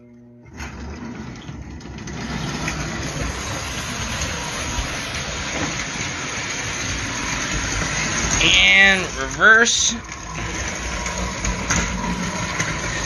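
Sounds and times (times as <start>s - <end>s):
toy electric train running on track: 0.6s - 13.0s.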